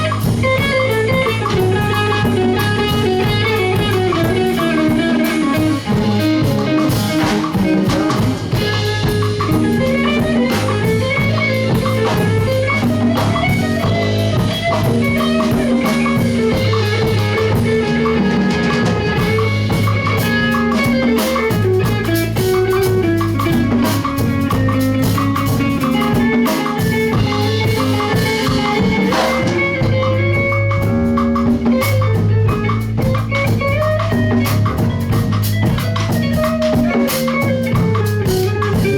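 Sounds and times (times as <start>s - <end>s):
bass: 0.0s - 38.9s
drum kit: 0.0s - 38.9s
guitar: 0.0s - 38.9s.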